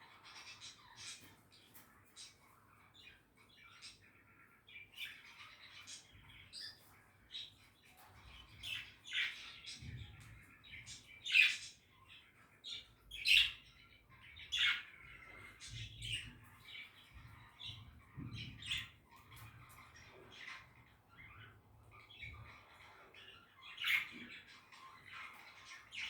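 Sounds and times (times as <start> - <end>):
budgies chattering: 0.0 - 26.0.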